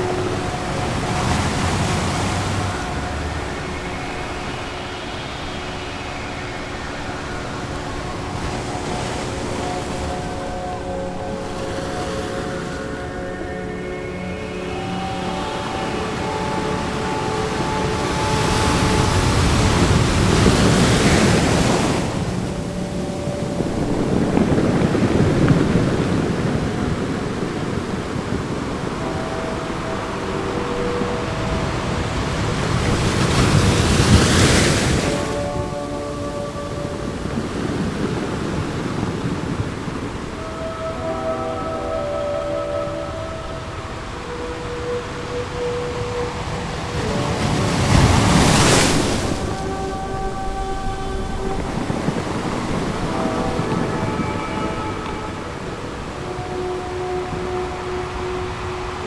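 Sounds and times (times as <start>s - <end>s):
faint drone tones: 0.0s - 59.0s
ocean wave breaking: 0.0s - 59.0s
surf hissing: 0.0s - 59.0s.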